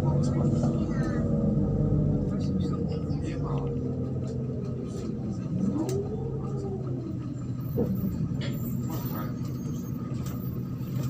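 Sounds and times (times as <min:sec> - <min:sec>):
bus engine drone with whine: 0:00.0 - 0:11.0.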